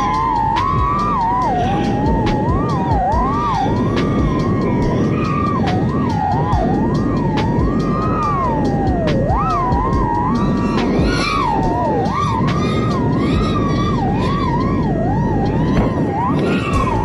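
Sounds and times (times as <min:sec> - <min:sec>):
dense rushing noise: 0:00.0 - 0:17.0
drone motors whining: 0:00.0 - 0:17.0.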